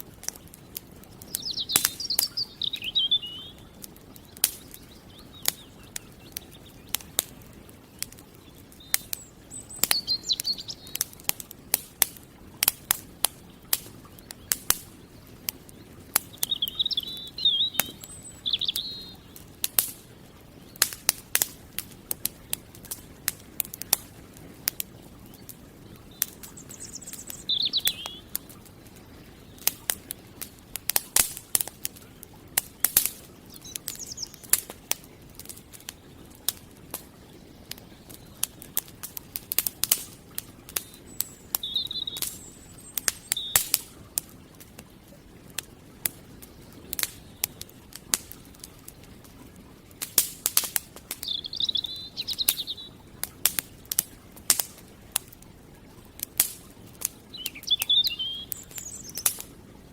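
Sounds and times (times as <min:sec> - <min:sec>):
campfire crackling and popping: 0:00.0 - 0:59.9
small birds chirping: 0:00.0 - 0:59.9.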